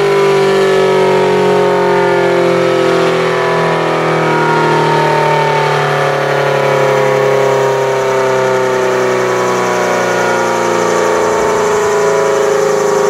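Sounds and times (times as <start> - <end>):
warning sirens wailing: 0.0 - 13.0
low motor hum: 0.6 - 13.0.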